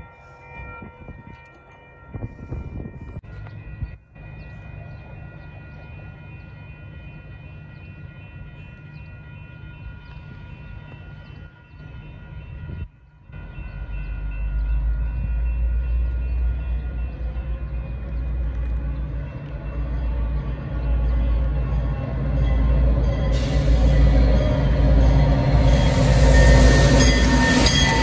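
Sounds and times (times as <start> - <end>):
crossing bells ringing: 0.0 - 28.0
train rumble: 0.0 - 28.0.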